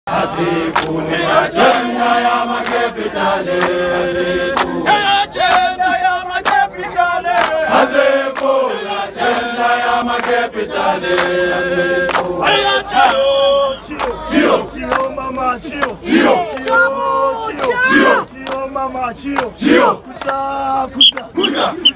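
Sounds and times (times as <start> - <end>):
crowd singing call and response: 0.1 - 21.9.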